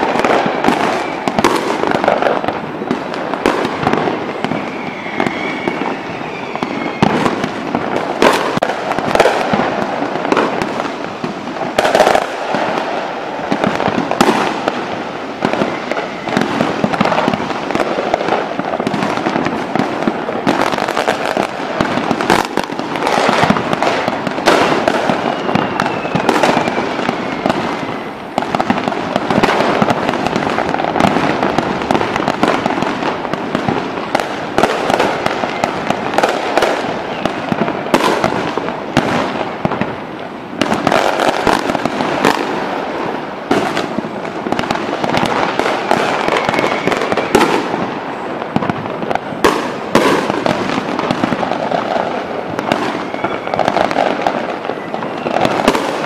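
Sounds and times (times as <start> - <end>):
firework whistle: 0.0 - 56.0
fireworks crackling: 0.0 - 56.0.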